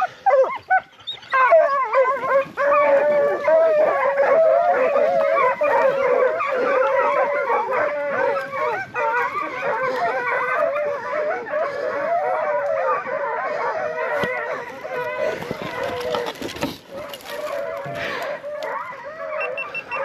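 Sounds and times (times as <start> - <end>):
hounds baying and howling: 0.0 - 20.0.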